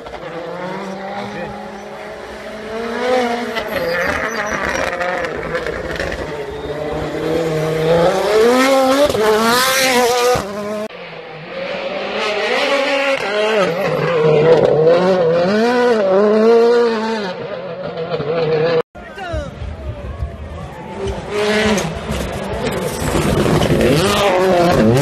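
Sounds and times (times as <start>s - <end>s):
rally car engines revving: 0.0s - 18.8s, 19.5s - 25.0s.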